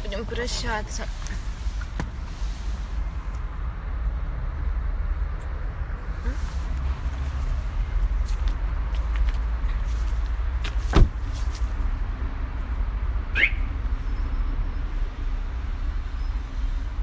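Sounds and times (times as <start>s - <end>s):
outdoor street noise rumble: 0.0s - 17.0s.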